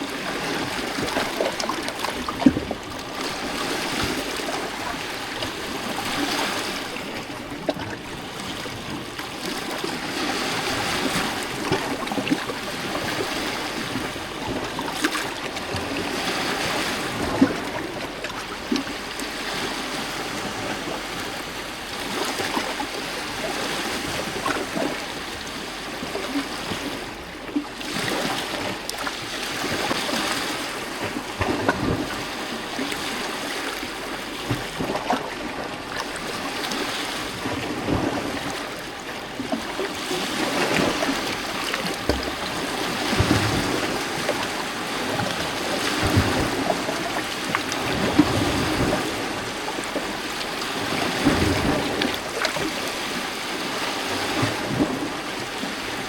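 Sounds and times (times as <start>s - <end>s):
waves lapping against rocks: 0.0s - 56.0s.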